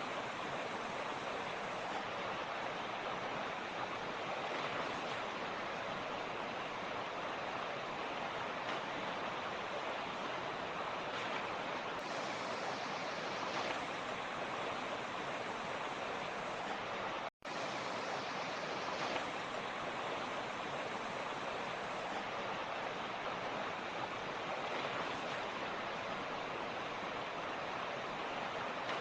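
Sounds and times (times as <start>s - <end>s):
creek water running: 0.0s - 29.0s.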